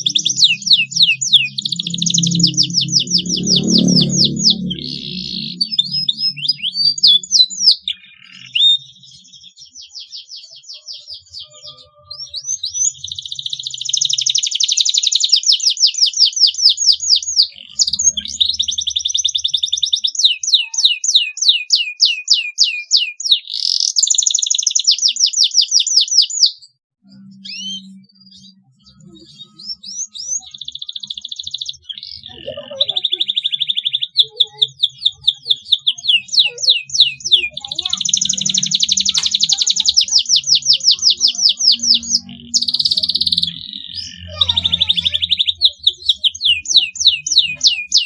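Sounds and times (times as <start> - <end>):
canary singing trills: 0.0 - 48.0
faint bird chirps: 0.0 - 48.0.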